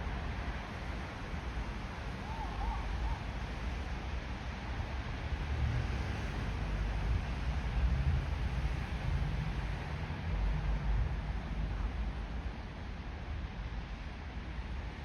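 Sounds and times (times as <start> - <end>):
low rumble of city ambience: 0.0 - 15.0.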